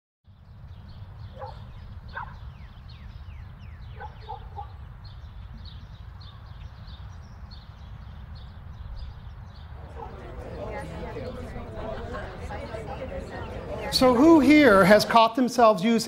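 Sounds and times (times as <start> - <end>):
small birds chirping: 0.3 - 14.9.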